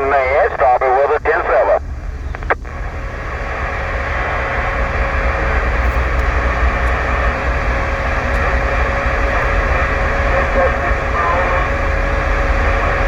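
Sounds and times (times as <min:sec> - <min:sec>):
constant hiss: 0:00.0 - 0:13.0
engine and road rumble: 0:00.0 - 0:13.0
faint steady hum: 0:00.0 - 0:13.0.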